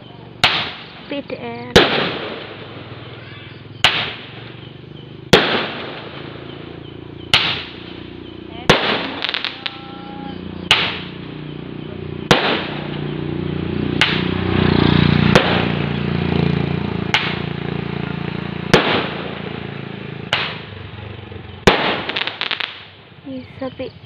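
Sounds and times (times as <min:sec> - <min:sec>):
fireworks bangs: 0:00.0 - 0:11.4, 0:12.2 - 0:23.5
fireworks crackling: 0:00.0 - 0:11.4, 0:12.3 - 0:23.9.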